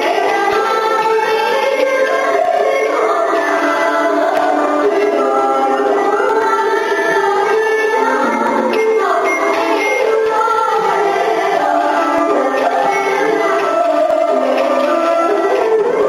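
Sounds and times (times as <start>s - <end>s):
traditional instrumental ensemble: 0.0s - 16.0s
voices singing: 0.0s - 16.0s.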